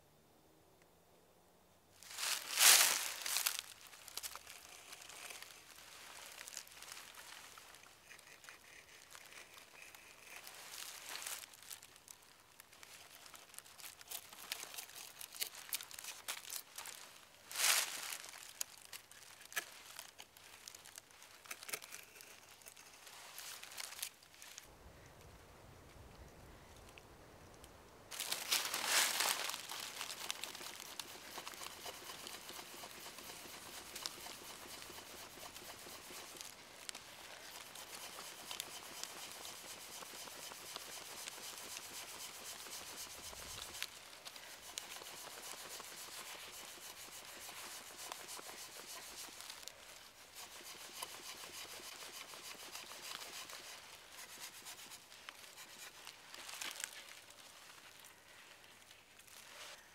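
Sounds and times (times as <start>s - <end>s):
wooden point scraping log: 2.1s - 12.1s, 12.8s - 24.7s, 28.1s - 58.1s.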